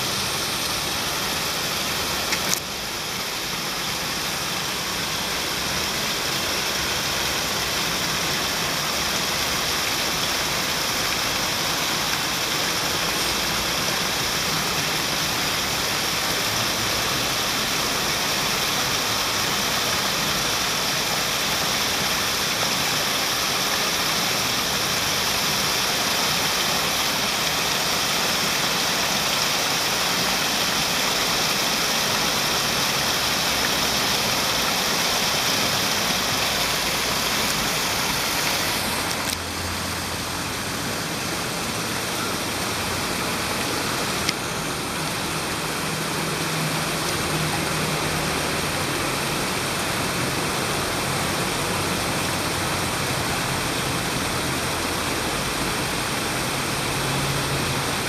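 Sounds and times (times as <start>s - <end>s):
stream cascading over rocks: 0.0s - 58.0s.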